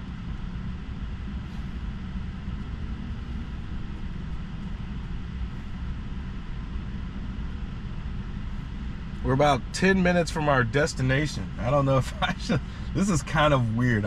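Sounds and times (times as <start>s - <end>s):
road and tyre noise: 0.0s - 14.0s.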